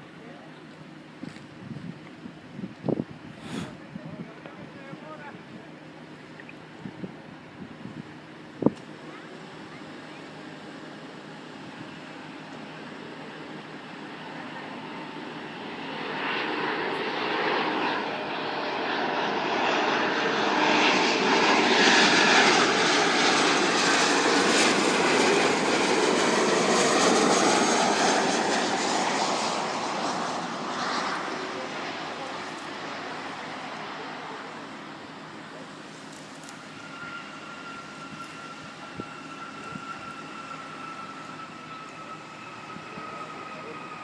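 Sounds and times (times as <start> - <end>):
airplane passing overhead: 0.0 - 44.0.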